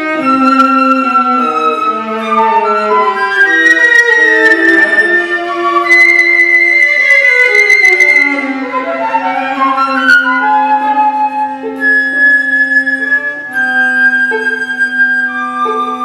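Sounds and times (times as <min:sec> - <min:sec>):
flute playing: 0:00.0 - 0:16.0
viola playing: 0:00.0 - 0:16.0.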